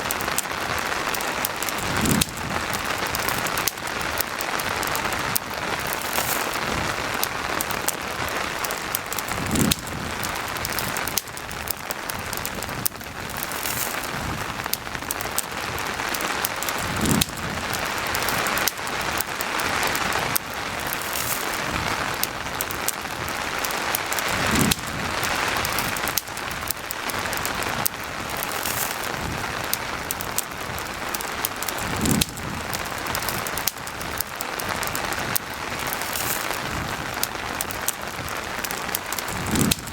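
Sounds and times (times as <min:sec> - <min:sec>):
campfire crackling: 0:00.0 - 0:39.9
steady rain: 0:00.0 - 0:39.9.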